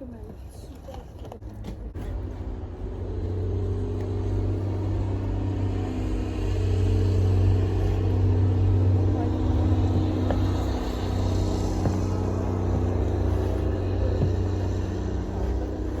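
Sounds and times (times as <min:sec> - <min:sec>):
car engine humming: 0:01.4 - 0:16.0.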